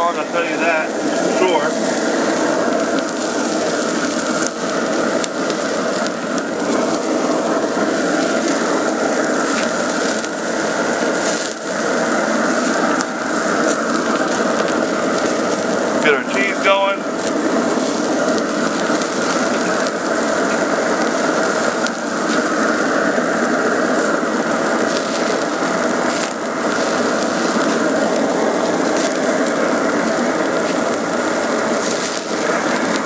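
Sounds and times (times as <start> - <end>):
burger patties sizzling on grill: 0.0 - 33.0.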